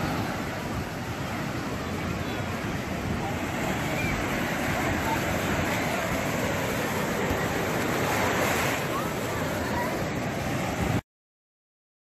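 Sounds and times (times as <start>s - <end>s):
ocean waves breaking on sand: 0.0s - 11.0s.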